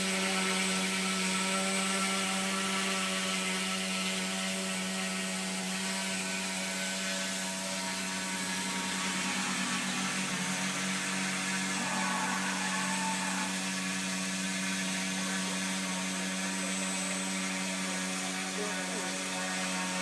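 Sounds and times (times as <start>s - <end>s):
model engine buzzing: 0.0s - 20.0s.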